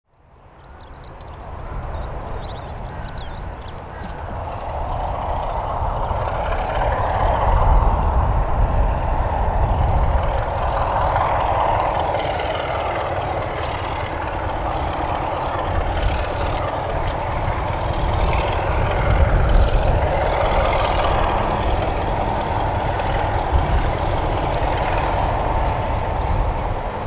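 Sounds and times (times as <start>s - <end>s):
diesel train running past: 0.1s - 27.0s.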